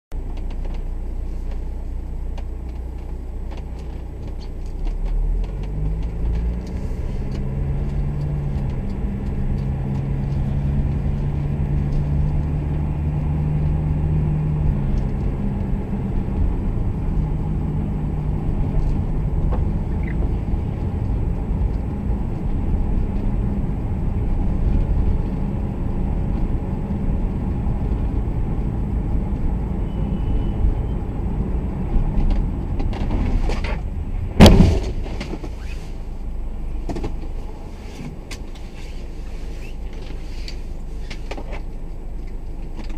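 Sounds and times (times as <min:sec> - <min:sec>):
car engine hum: 0:00.1 - 0:42.9.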